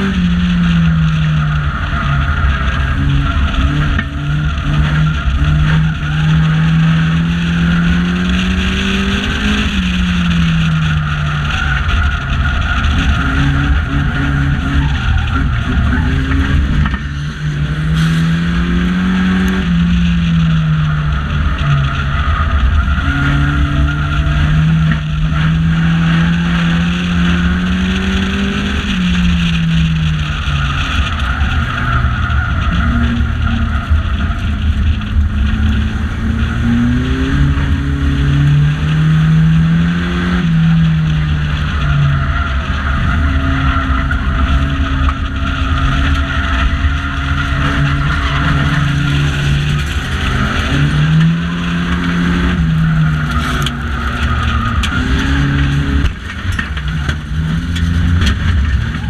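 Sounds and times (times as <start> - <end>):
racing car engine: 0.0 - 59.0.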